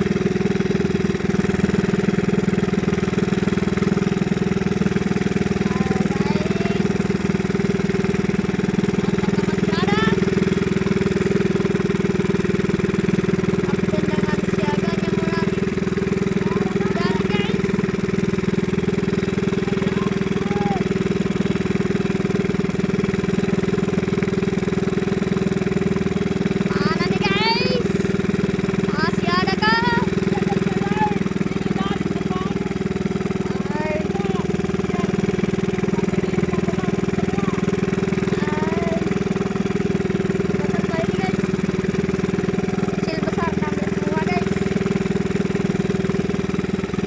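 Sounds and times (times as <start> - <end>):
boat engine pulsing drone: 0.0 - 47.0.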